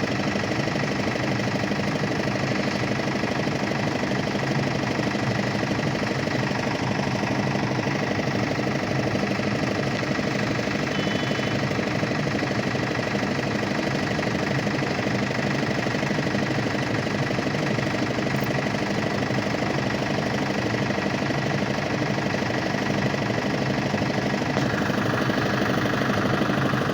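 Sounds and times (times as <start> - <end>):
road machine engine running: 0.0 - 26.9.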